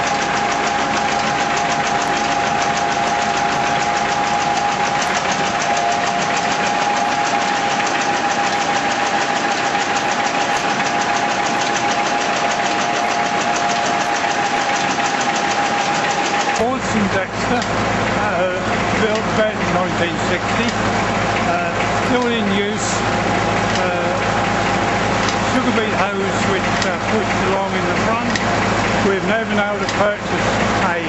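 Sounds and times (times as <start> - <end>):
diesel engine running: 0.0 - 31.0
steady whine: 0.0 - 31.0.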